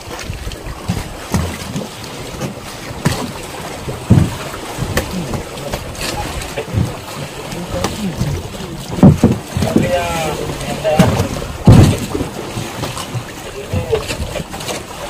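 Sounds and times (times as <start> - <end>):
knocks and thumps on boat: 0.0 - 15.0
sea noise: 0.0 - 15.0
wind: 0.0 - 15.0.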